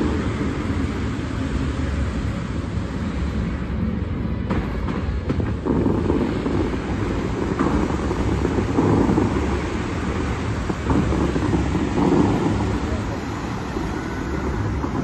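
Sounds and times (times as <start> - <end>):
fountain water rushing: 0.0 - 15.0
wind buffeting microphone: 0.0 - 15.0.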